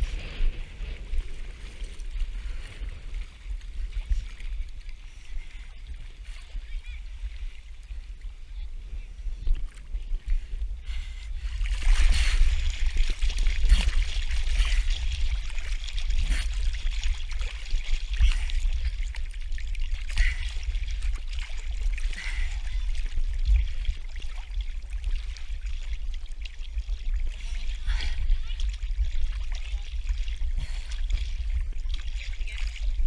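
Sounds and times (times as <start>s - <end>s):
constant low rumble: 0.0s - 33.0s
water sloshing and lapping: 0.0s - 33.0s.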